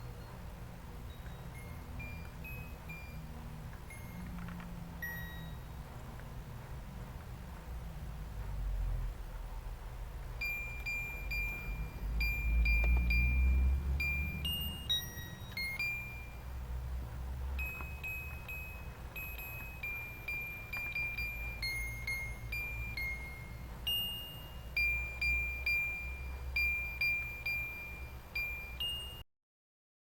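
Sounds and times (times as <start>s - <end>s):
low electrical hum: 0.0s - 29.2s.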